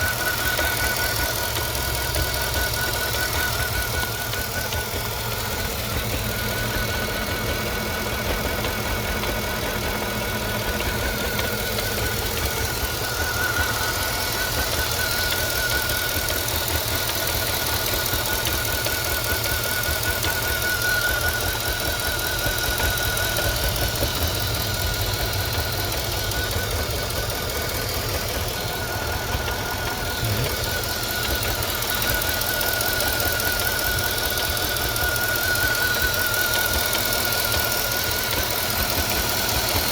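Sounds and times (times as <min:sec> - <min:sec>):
car engine idling: 0:00.0 - 0:39.9
irregular engine rattle: 0:00.0 - 0:39.9.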